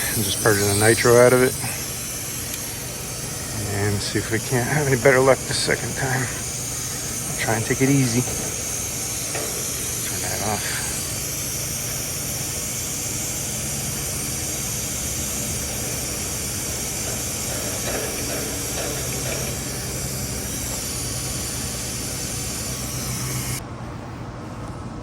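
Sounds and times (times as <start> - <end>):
gas hissing from pipes: 0.0 - 23.6
low hum: 0.0 - 23.6.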